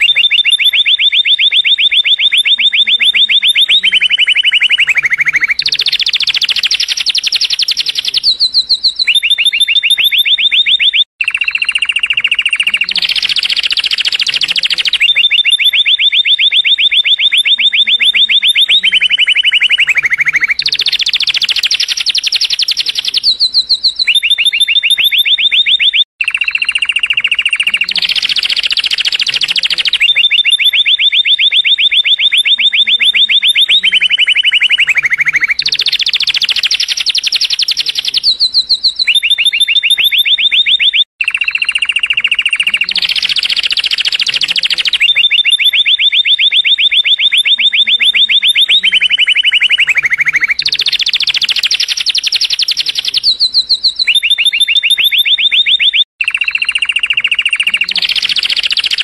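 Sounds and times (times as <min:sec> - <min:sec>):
canary trilling: 0:00.0 - 0:59.0.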